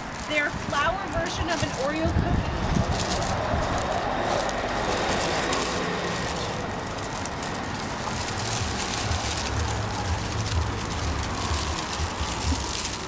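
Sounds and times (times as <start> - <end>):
low traffic rumble: 0.0 - 13.0
paper and plastic bags rustling: 0.0 - 13.0.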